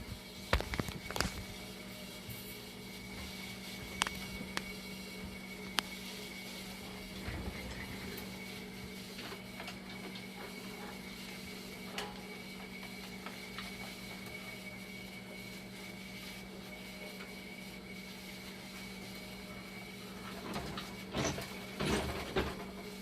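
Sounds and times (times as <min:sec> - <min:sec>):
faint high whine: 0:00.0 - 0:20.3
machine humming: 0:00.0 - 0:23.0.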